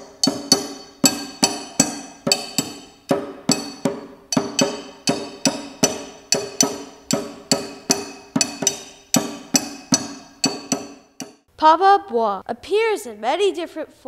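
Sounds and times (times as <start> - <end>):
ringing pitched percussion notes: 0.0 - 11.5.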